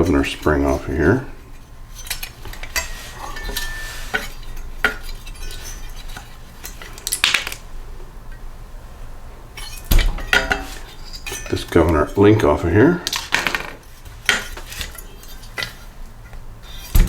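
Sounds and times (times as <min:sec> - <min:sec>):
metal tools clinking: 0:00.0 - 0:07.7, 0:09.6 - 0:17.0.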